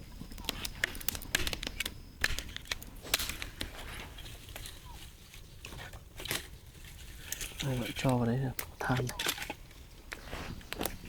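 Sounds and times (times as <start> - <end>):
firewood and charcoal crackling: 0.0 - 11.0.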